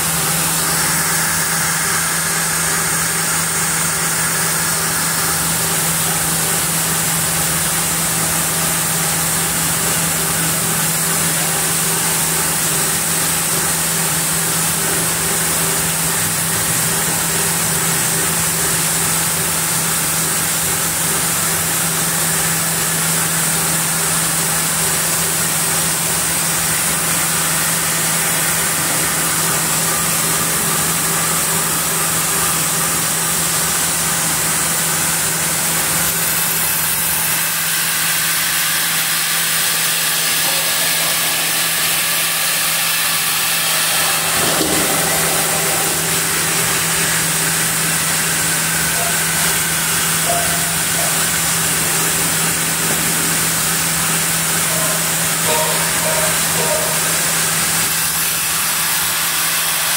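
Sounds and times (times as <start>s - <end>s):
sawmill machinery humming and hissing: 0.0s - 59.9s.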